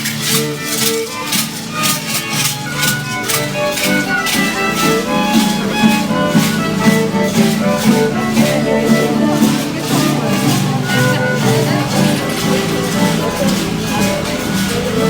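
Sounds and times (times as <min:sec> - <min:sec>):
rattles shaken in a beat: 0:00.0 - 0:15.0
violin melody: 0:00.0 - 0:15.0.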